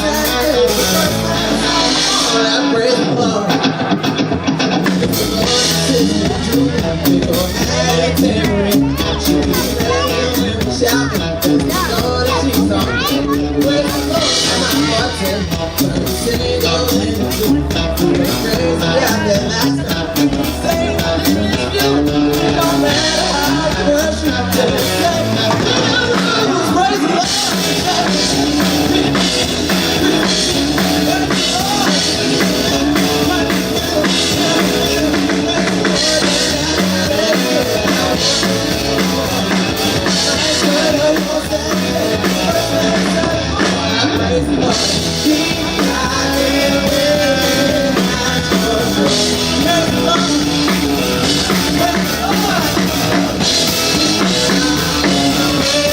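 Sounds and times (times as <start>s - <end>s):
live rock band playing: 0.0s - 55.9s
person singing: 0.0s - 55.9s.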